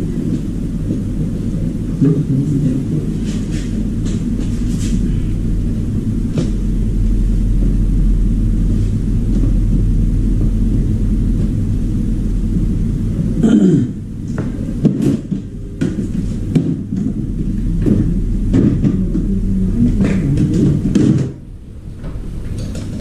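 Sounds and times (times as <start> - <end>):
appliance motor rumbling: 0.0 - 23.0.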